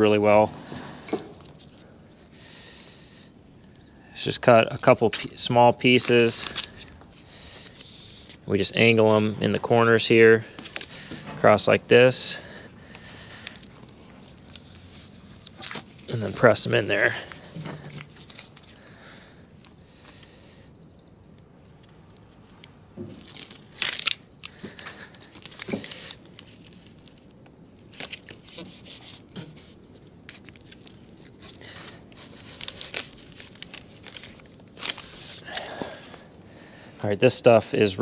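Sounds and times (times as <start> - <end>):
tape crinkling and rustling: 0.4 - 2.4, 3.6 - 36.6.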